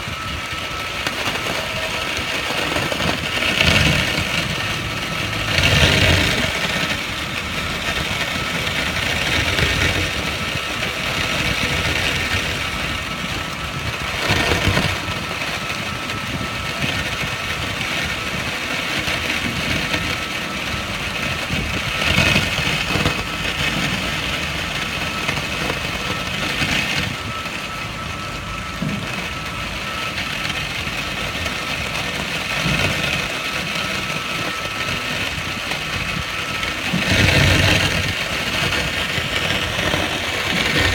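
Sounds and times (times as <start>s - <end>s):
thin steady whine: 0.0s - 40.9s
water jet spraying on metal: 0.0s - 40.9s.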